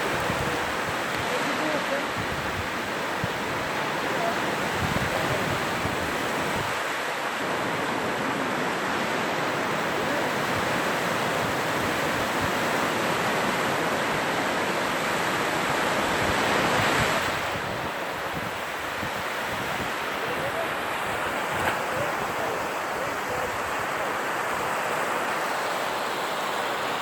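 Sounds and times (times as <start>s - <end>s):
waves washing onto shore: 0.0s - 27.0s.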